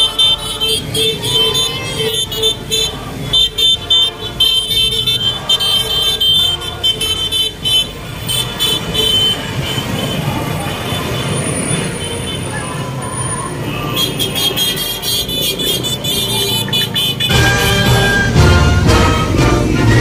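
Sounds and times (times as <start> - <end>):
motorcycle horns beeping: 0.0 - 19.8
motorcycle engines running: 0.0 - 20.0.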